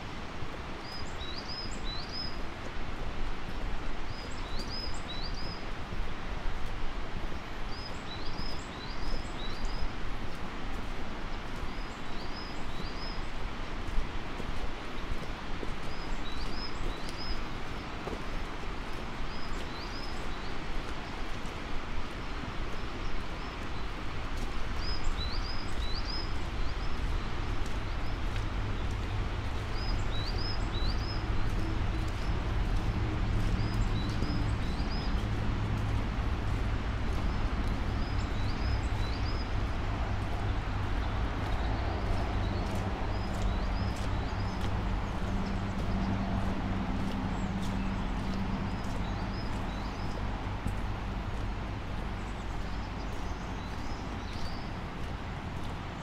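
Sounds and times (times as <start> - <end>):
footsteps on road: 0.0 - 56.0.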